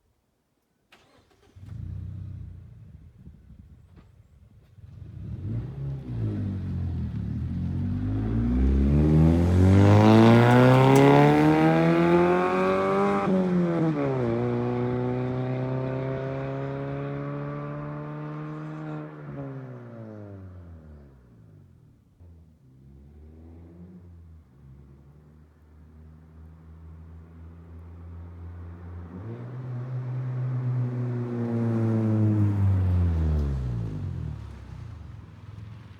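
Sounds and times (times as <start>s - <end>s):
car engine accelerating: 4.8s - 35.8s.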